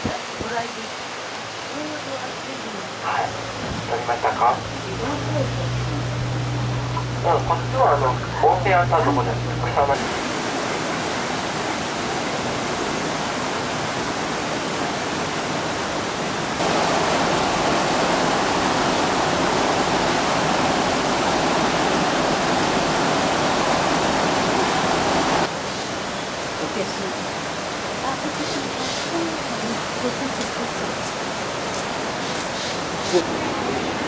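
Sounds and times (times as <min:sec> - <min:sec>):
river water rushing over rocks: 0:00.0 - 0:34.0.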